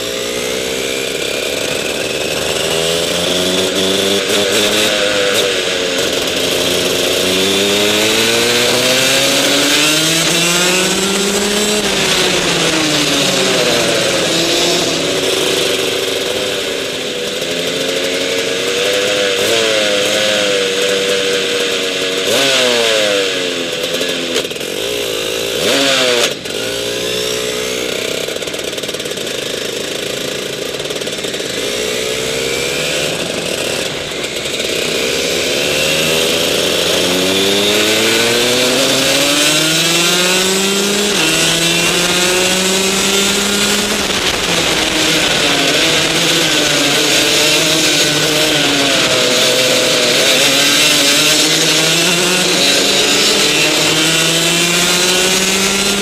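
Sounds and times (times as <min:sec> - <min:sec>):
kart two-stroke engine racing: 0:00.0 - 0:56.0.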